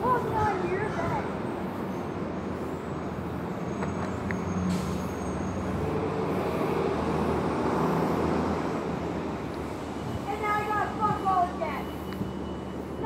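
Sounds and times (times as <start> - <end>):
bus engine running: 0.0 - 13.0
street traffic: 0.0 - 13.0.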